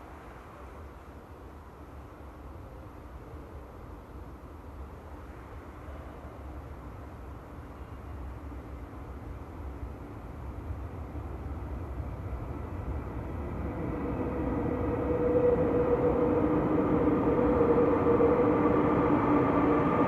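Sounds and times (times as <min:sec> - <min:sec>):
steady multi-tone hum: 0:00.0 - 0:20.0
subway train rumble in tunnel: 0:00.0 - 0:20.0.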